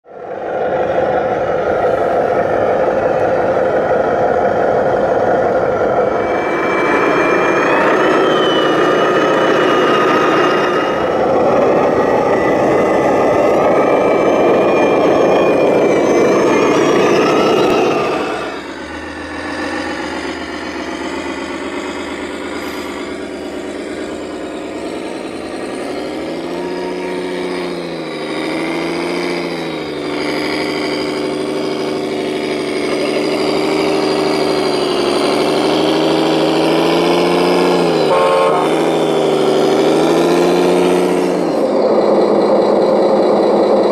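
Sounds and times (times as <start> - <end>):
droning pitch: 0.0 - 43.9
model truck motors: 0.0 - 43.9.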